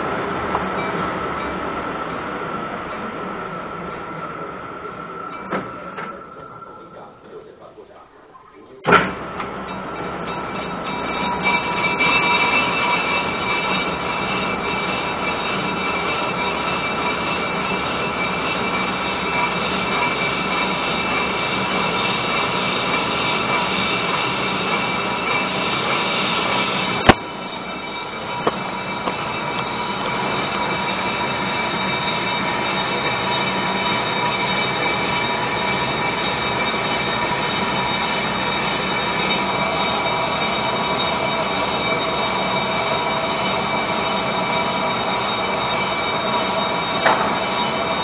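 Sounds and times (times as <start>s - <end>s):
ringing high whine: 0.0s - 48.0s
lathe tool cutting metal: 8.8s - 48.0s.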